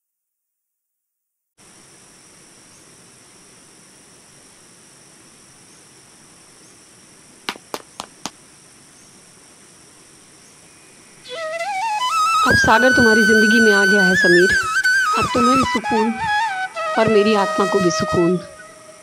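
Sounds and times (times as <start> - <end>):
faint hiss: 1.6 - 19.0
insects chirring: 1.6 - 19.0.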